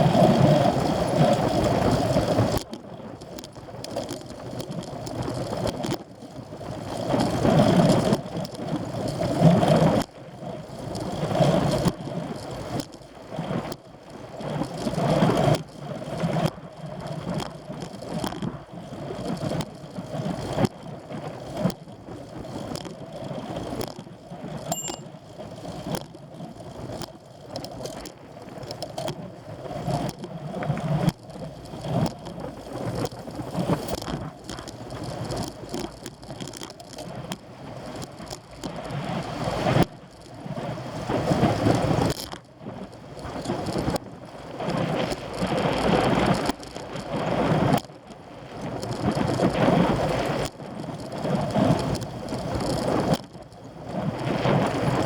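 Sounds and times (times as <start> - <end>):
bike rattling over road: 0.0 - 16.5, 17.3 - 55.0.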